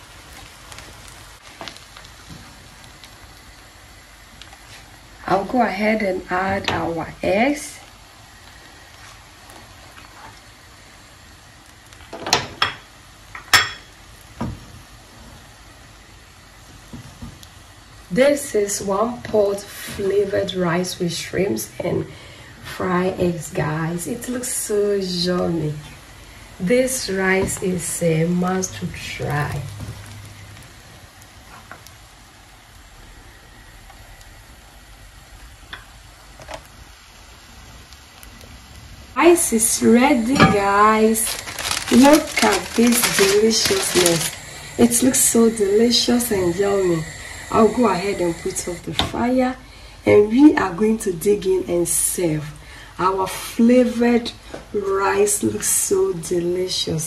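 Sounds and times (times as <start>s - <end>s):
rice sizzling in a pot: 0.0s - 57.0s.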